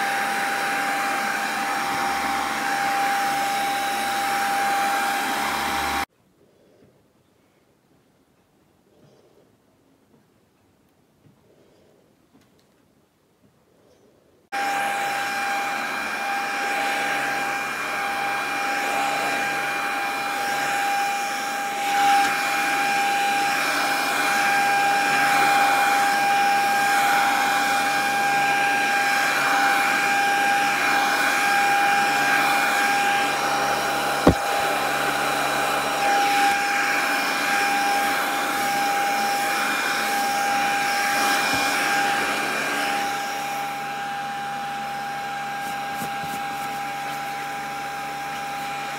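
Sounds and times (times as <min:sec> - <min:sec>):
vacuum cleaner motor whine: 0:00.0 - 0:06.1, 0:14.5 - 0:48.9.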